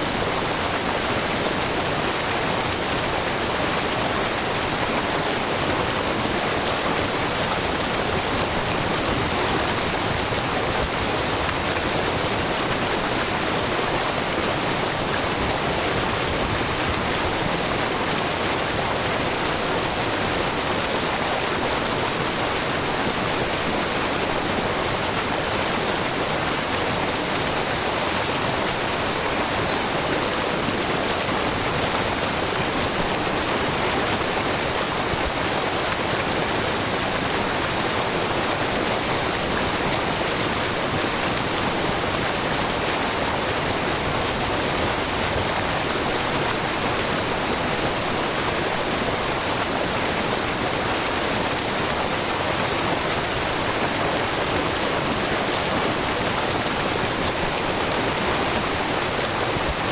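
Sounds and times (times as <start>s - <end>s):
brook babbling: 0.0s - 59.9s
waterfall spilling over rock: 0.0s - 59.9s.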